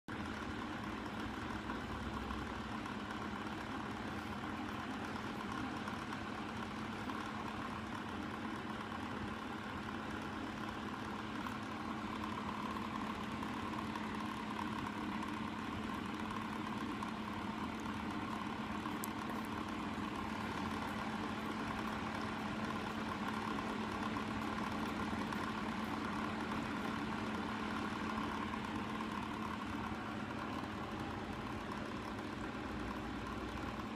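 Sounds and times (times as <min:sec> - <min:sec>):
motor humming: 0:00.1 - 0:33.9.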